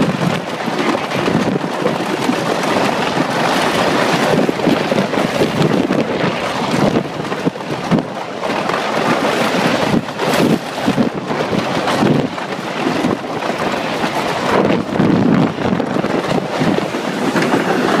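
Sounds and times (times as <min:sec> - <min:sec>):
roller coaster rumbling on track: 0:00.0 - 0:18.0
wind rushing over microphone: 0:00.0 - 0:18.0.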